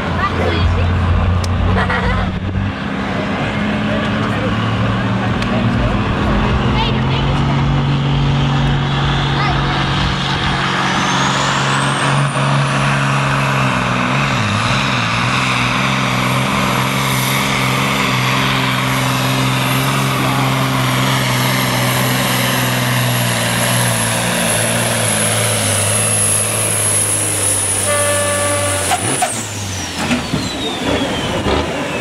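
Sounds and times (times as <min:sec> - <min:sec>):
diesel truck engine under load: 0:00.0 - 0:32.0.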